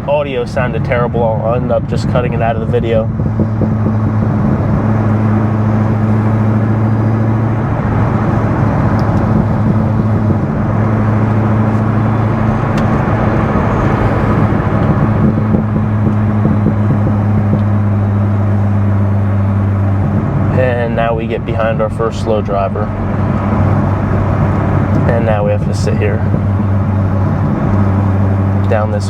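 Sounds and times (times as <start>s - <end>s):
car engine drone inside cabin: 0.0s - 29.0s
road noise: 0.0s - 29.0s.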